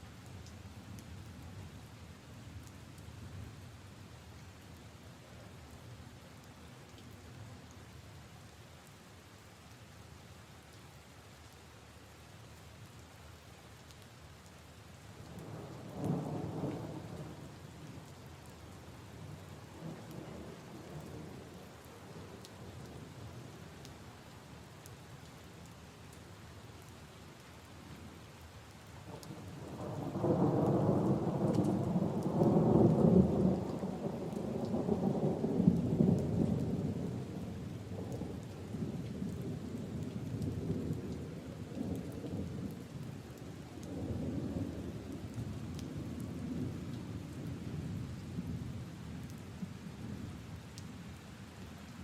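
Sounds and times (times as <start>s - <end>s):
rain on leaves and puddles: 0.0s - 52.0s.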